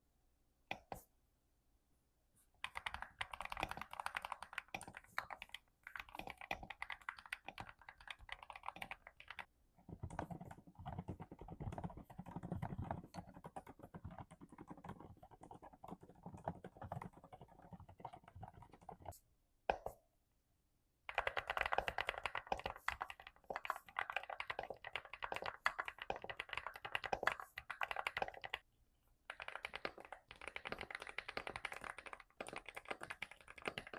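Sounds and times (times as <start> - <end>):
typing on computer keyboard: 2.6 - 19.1, 21.1 - 28.6, 29.3 - 33.9.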